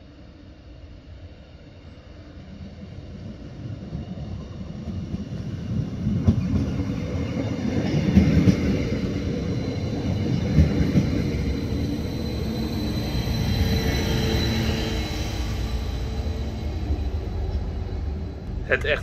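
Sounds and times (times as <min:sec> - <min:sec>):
train engine and wheels rumbling: 0:00.0 - 0:19.0.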